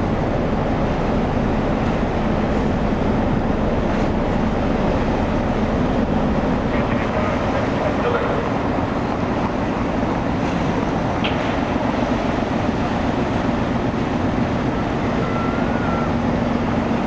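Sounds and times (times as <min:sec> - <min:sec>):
ferry diesel engines rumbling: 0:00.0 - 0:17.0.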